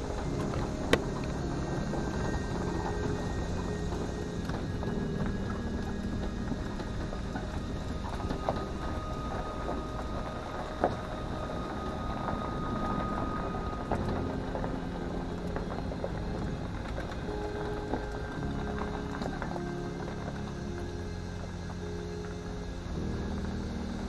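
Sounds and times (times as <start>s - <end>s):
tyres rumbling on rough road: 0.0s - 24.0s
vehicle rattling: 0.0s - 24.0s.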